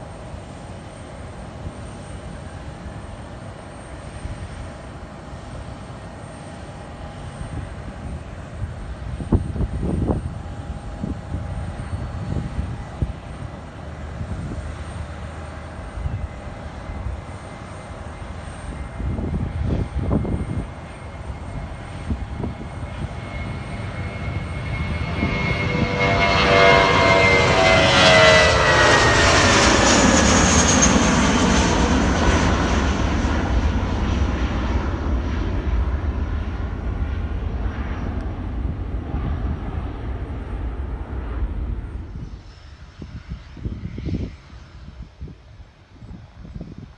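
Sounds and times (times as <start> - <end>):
jet airliner taking off: 0.0 - 46.9.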